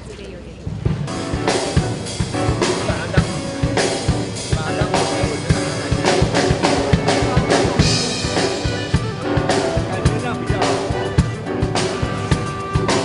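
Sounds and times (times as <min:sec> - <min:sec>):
band music: 0:00.0 - 0:13.0
drum kit beat: 0:00.7 - 0:13.0.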